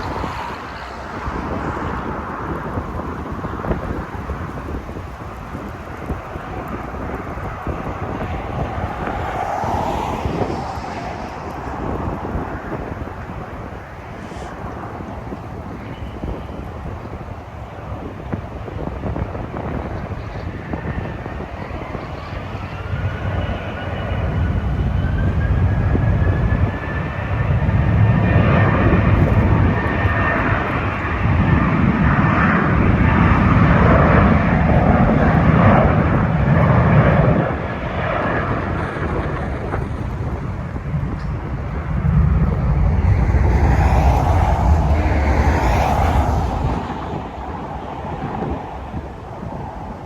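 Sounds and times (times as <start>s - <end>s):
jet airliner engine rumble: 0.0s - 50.0s.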